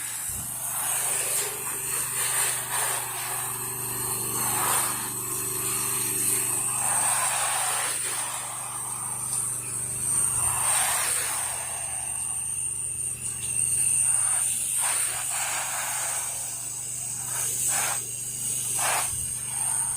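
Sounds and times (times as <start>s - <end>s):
hiss of spray wand: 0.0s - 19.9s
pressure washer engine running: 0.0s - 19.9s.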